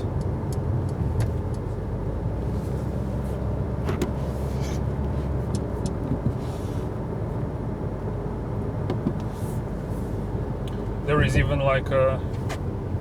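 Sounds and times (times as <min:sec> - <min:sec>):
low rumble of tyres and engine: 0:00.0 - 0:13.0.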